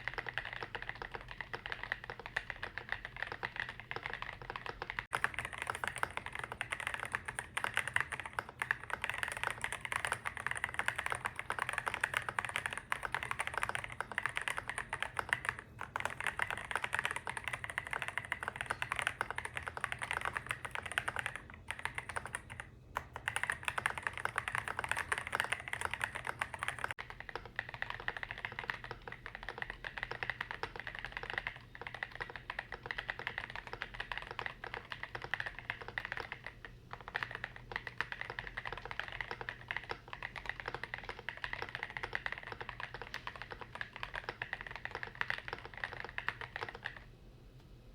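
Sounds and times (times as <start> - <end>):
mechanical keyboard typing: 0.0 - 47.1.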